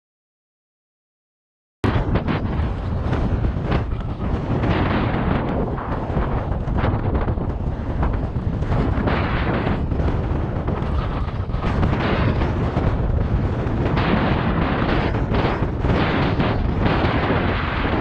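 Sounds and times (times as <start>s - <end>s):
strong wind buffeting microphone: 1.8s - 18.0s.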